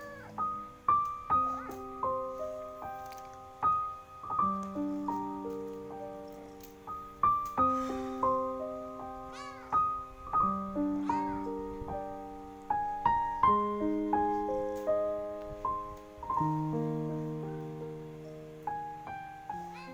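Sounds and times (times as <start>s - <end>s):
slow piano melody: 0.0s - 19.9s.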